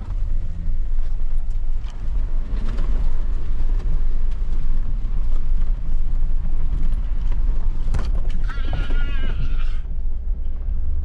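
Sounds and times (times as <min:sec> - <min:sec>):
engine rumble: 0:00.0 - 0:11.0.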